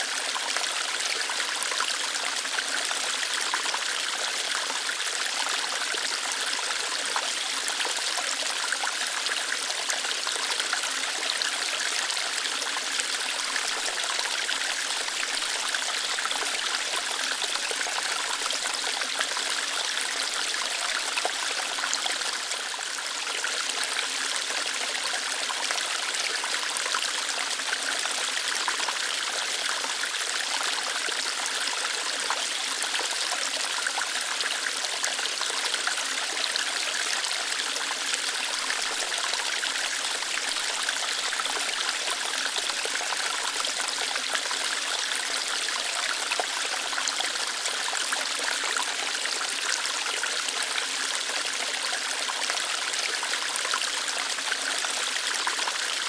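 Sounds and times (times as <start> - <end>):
small waterfall flowing over rocks: 0.0 - 56.0.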